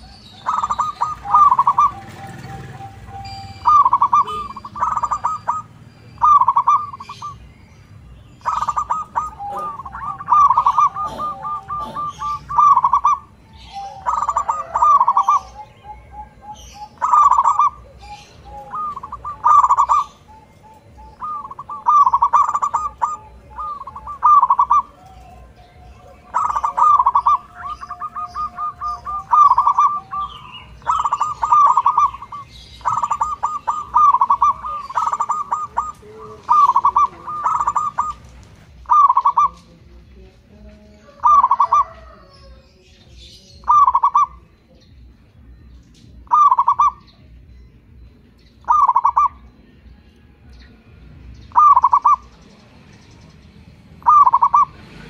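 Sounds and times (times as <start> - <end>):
dove cooing: 0.0 - 40.0, 41.0 - 52.7, 53.9 - 55.0.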